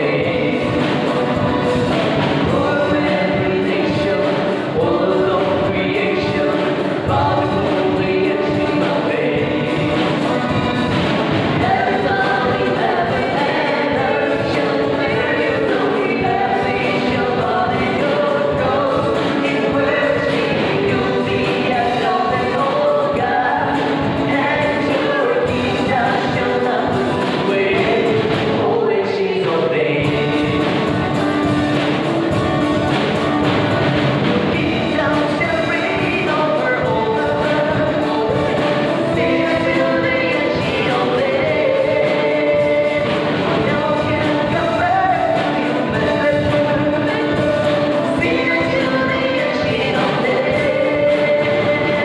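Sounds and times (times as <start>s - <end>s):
acoustic guitar: 0.0s - 52.0s
congregation singing: 0.0s - 52.0s.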